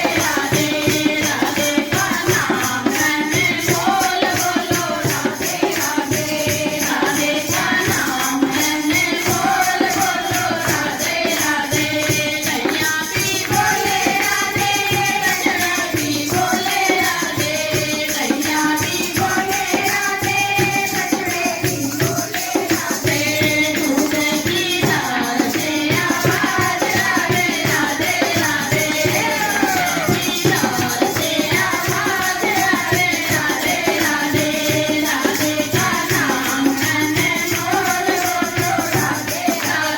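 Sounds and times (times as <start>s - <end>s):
jingling rattling percussion: 0.0s - 39.9s
person singing devotional song: 0.0s - 39.9s.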